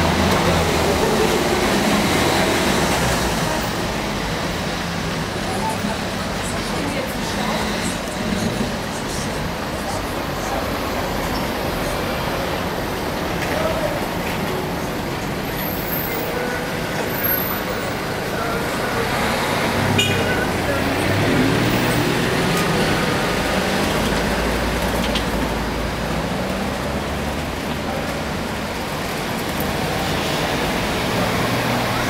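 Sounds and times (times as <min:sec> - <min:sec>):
cars passing slowly: 0:00.0 - 0:32.0.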